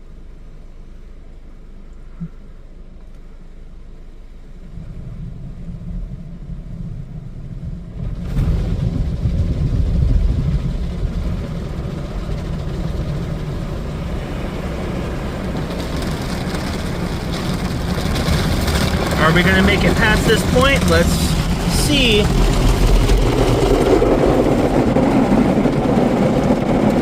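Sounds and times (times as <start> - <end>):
car wash brush rumbling: 4.2 - 27.0.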